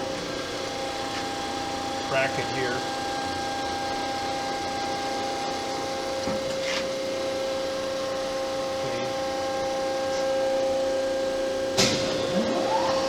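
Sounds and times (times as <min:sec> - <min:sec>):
grinder machine humming: 0:00.0 - 0:13.0.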